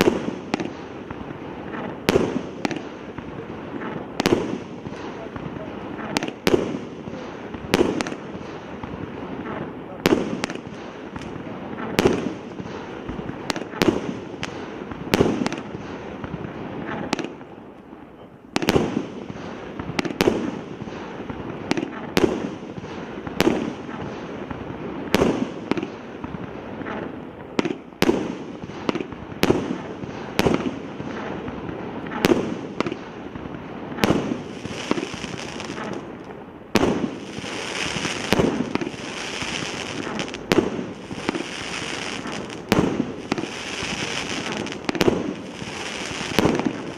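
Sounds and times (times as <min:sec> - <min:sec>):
crackling fireworks fizzing: 0:00.0 - 0:46.9
fireworks bangs: 0:00.0 - 0:46.9.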